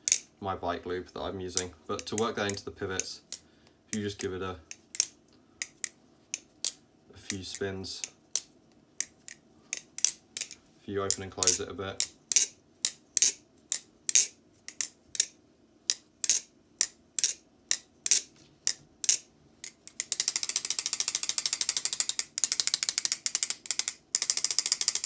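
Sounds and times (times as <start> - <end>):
butterfly knife handles clicking: 0.0 - 0.3, 1.6 - 25.0.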